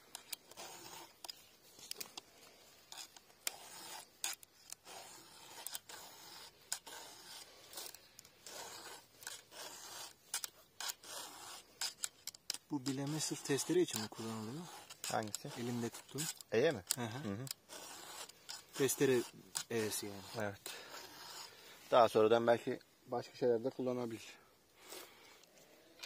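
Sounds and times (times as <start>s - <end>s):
file rasping on chainsaw chain: 0.0s - 22.1s.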